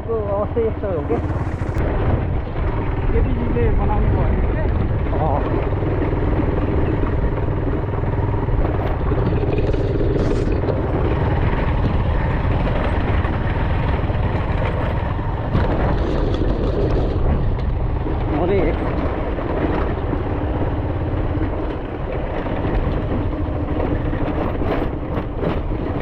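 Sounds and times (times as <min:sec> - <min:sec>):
motorcycle engine running: 0:00.0 - 0:26.0
wind rush on microphone: 0:00.0 - 0:26.0.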